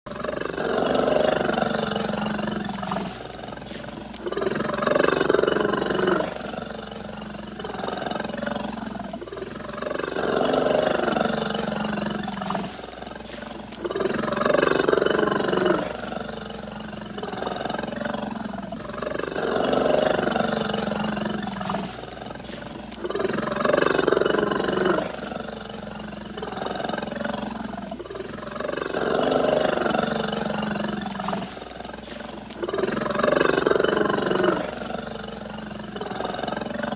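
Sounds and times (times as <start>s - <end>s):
bear growling: 0.1s - 36.9s.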